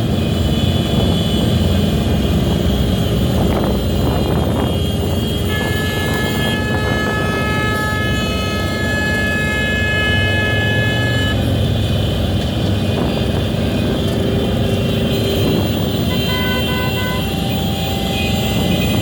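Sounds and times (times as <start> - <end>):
traffic engines rumbling: 0.0 - 19.0
vehicle horns honking: 0.0 - 19.0.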